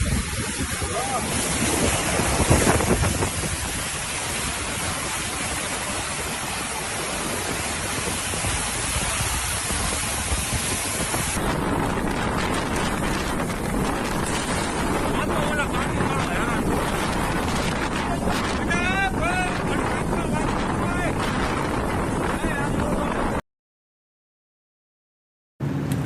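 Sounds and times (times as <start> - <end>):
storm wind and water rushing: 0.0 - 23.4.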